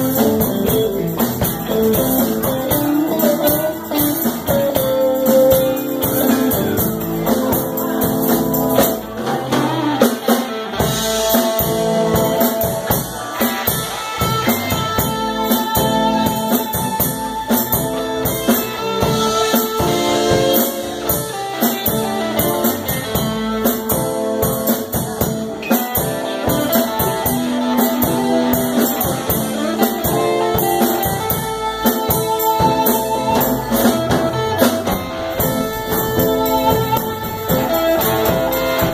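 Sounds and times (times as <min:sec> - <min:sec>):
bass guitar: 0:00.0 - 0:38.9
drums: 0:00.0 - 0:38.9
electric guitars: 0:00.0 - 0:38.9.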